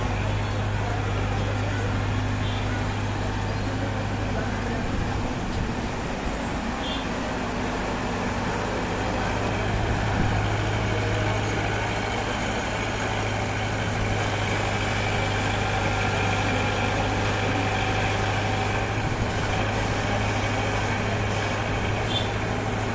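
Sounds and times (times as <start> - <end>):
heavy engine droning steadily: 0.0 - 22.9.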